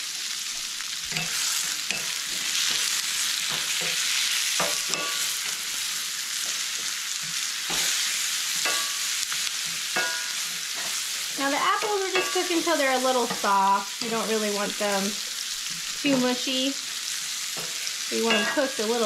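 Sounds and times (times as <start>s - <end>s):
apples and bacon sizzling: 0.0s - 19.0s.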